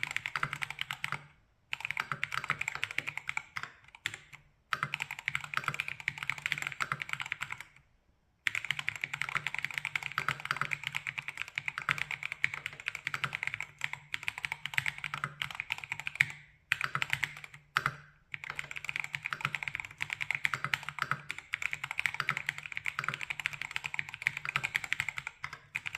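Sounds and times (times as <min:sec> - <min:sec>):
mechanical keyboard typing: 0:00.0 - 0:07.8, 0:08.5 - 0:25.9.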